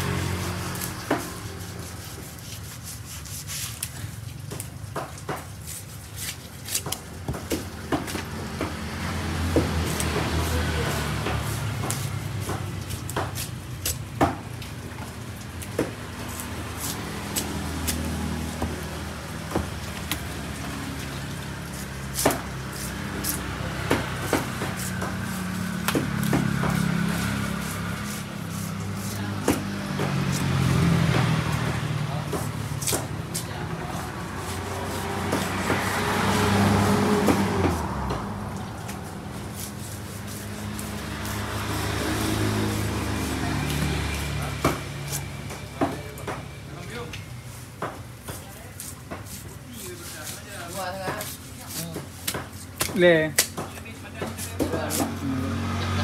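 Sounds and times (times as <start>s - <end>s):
knife scraping fish scales: 0.0s - 45.6s, 47.4s - 56.0s.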